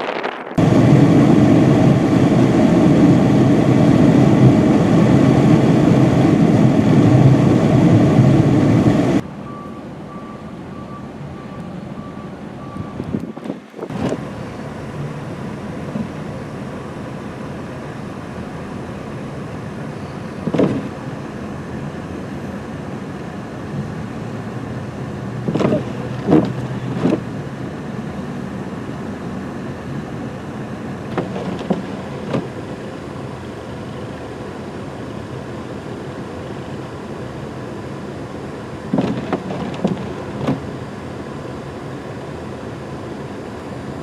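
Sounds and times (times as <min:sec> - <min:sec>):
road vehicles rumbling: 0:00.0 - 0:44.0.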